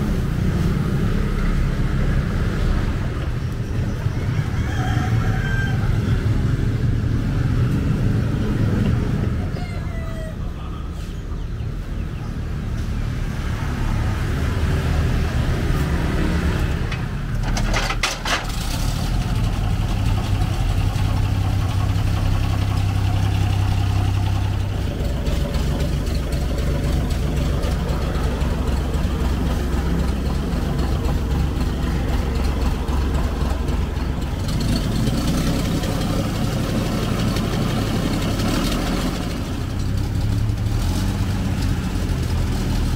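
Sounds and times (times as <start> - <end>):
truck engine low rumble: 0.0 - 42.9.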